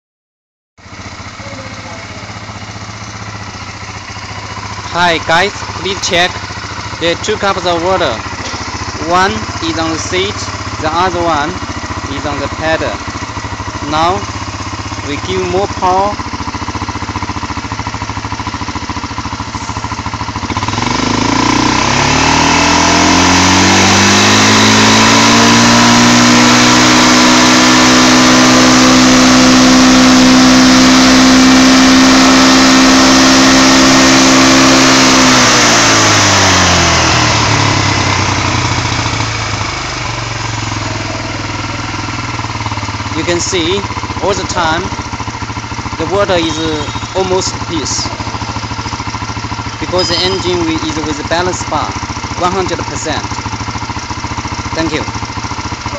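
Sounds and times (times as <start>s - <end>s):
atv engine idling and revving: 0.8s - 55.9s.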